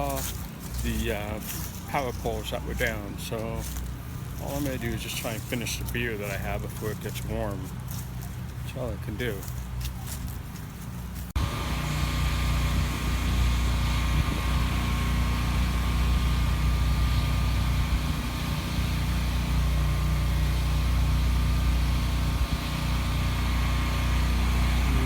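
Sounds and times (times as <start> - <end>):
generator engine humming: 0.0 - 25.0.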